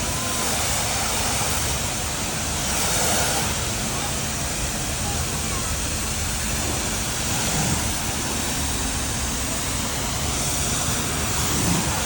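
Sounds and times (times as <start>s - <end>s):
diesel engine rumbling: 0.0s - 12.0s
noisy hiss: 0.0s - 12.0s.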